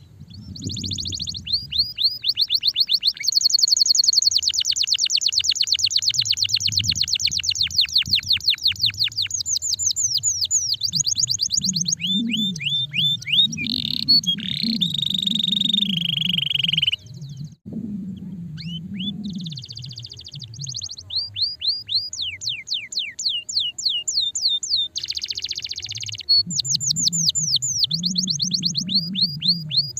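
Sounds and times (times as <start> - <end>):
canary singing trills: 0.0 - 29.9.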